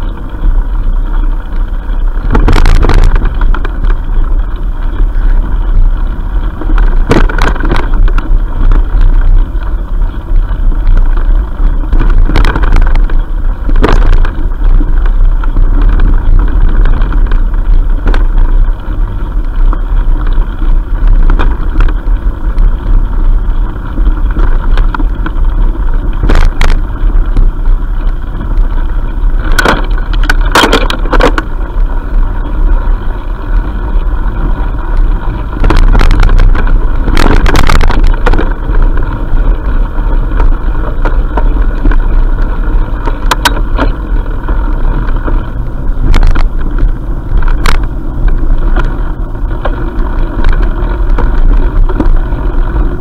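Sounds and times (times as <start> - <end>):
motorbike rumbling and rattling: 0.0 - 53.0.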